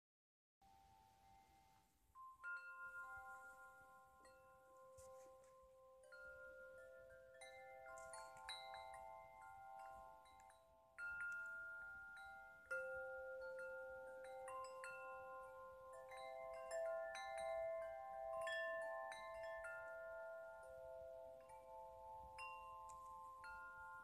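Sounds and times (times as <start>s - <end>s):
aluminium tube wind chime ringing: 0.6s - 24.0s.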